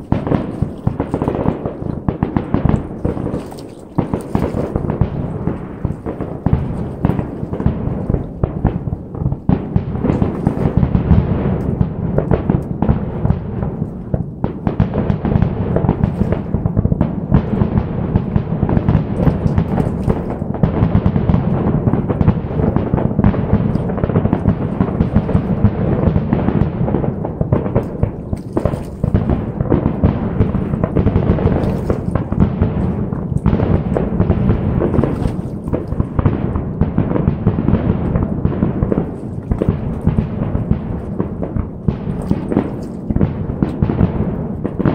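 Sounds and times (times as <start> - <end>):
fireworks booming and crackling: 0.0 - 44.9.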